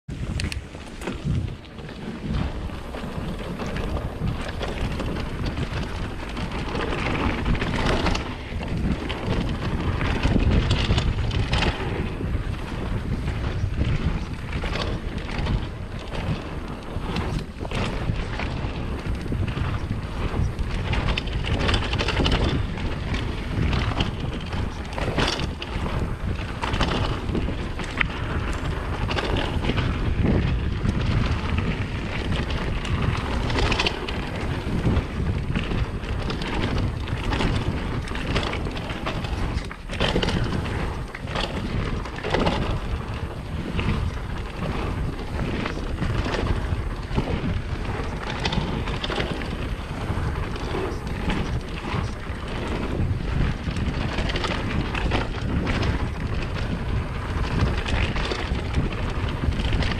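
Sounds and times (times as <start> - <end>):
wind buffeting microphone: 0.0 - 59.9
bike knocks and rattles: 0.1 - 59.9
bike tyres rushing on dirt: 0.1 - 59.9.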